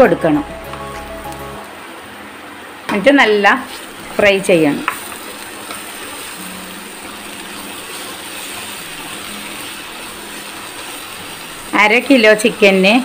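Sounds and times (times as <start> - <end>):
onion and tomato sizzling: 0.0 - 13.0.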